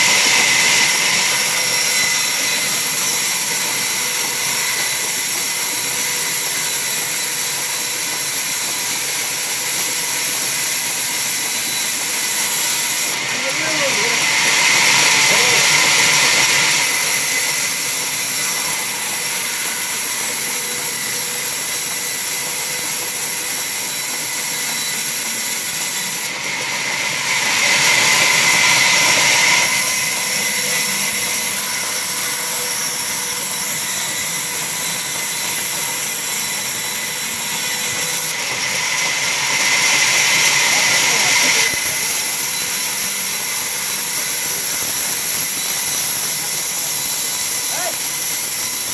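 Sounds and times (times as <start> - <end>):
band saw ripping timber: 0.0 - 48.9.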